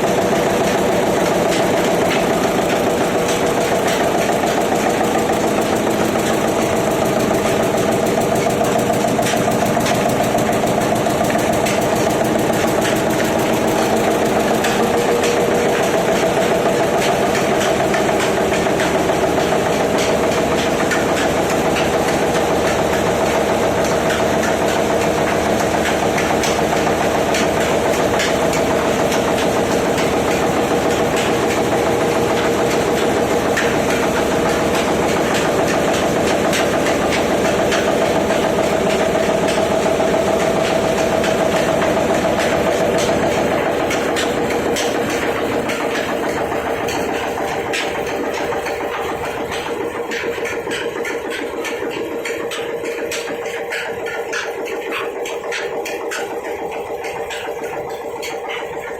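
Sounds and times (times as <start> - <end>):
machine humming: 0.0 - 58.9.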